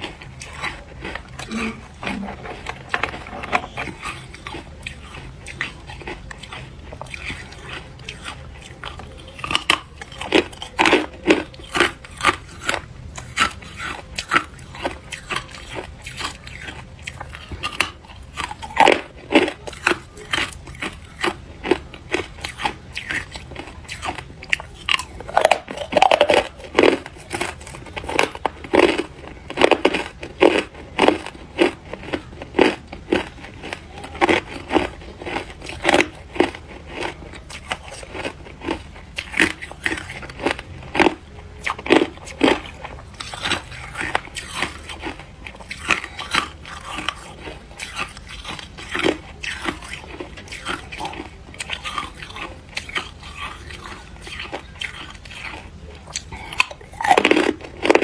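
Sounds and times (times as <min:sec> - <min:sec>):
person crunching ice: 0:00.0 - 0:58.0.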